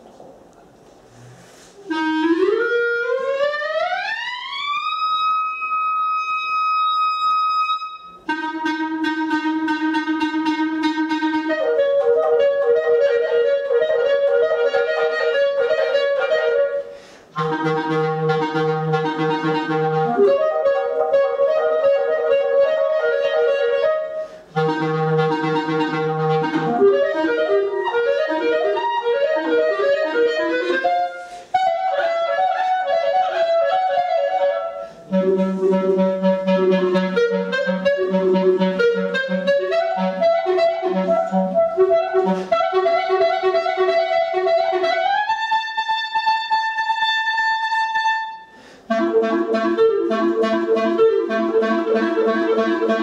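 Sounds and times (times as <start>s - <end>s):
solo clarinet playing: 1.7s - 53.0s.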